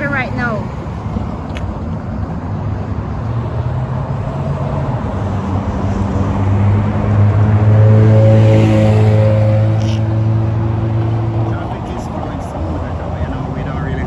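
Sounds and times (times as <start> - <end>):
highway traffic: 0.0 - 14.0
vehicle engine hum: 0.0 - 14.0.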